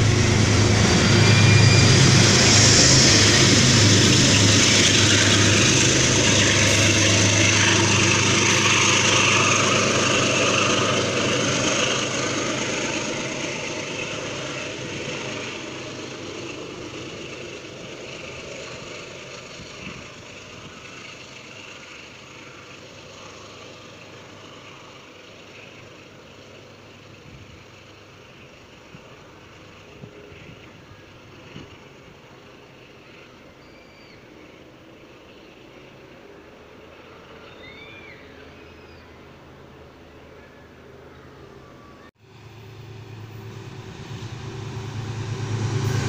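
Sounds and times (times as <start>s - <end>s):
diesel locomotive engine drone: 0.0s - 46.0s
train rumble: 0.0s - 46.0s.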